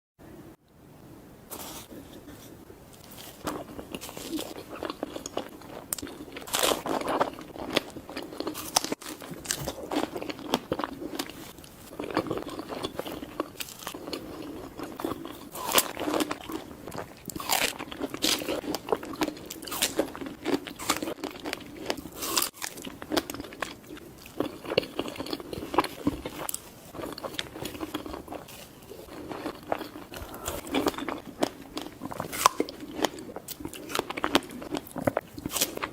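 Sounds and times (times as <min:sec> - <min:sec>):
person chewing crunchy food: 0:01.6 - 0:35.9.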